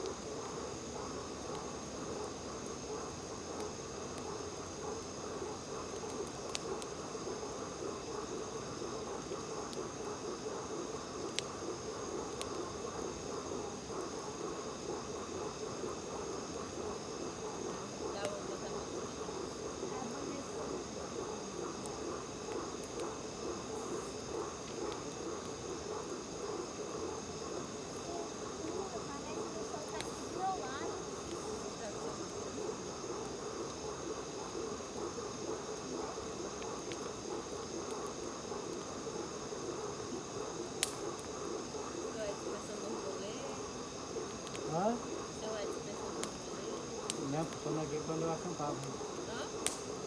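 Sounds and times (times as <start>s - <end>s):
campfire crackling and popping: 0.0s - 50.0s
frogs calling: 0.0s - 50.0s
insects calling: 0.0s - 50.0s.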